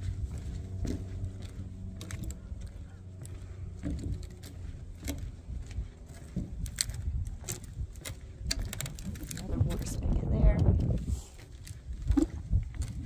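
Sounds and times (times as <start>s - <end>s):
wind rumbling on microphone: 0.0s - 13.0s
light clicks and knocks: 0.3s - 10.9s.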